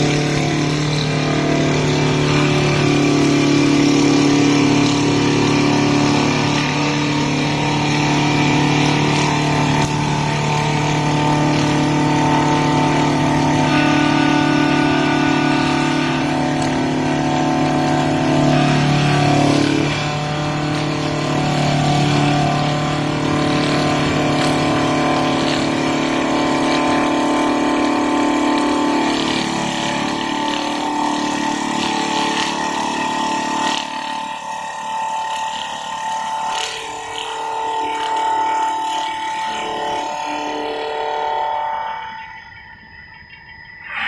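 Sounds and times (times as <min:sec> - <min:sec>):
brush wheel sanding wood: 0:00.0 - 0:42.1
motor hum: 0:00.0 - 0:44.0.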